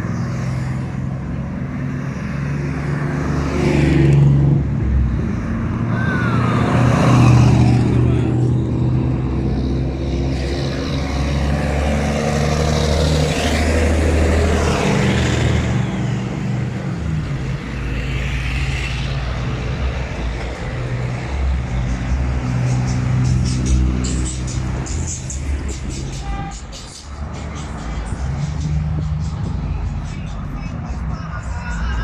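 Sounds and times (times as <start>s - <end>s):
truck engines running: 0.0s - 32.0s.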